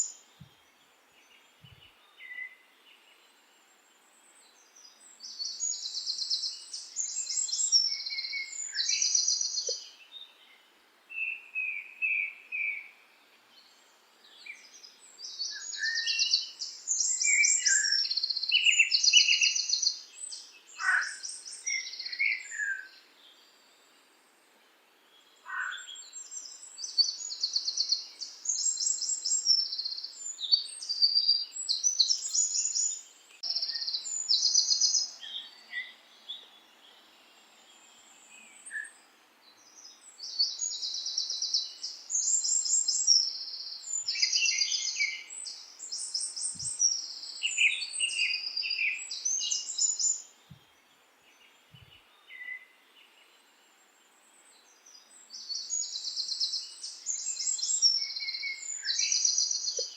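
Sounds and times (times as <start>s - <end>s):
faint steady hiss: 0.0s - 59.9s
small birds chirping and trilling: 0.0s - 59.9s.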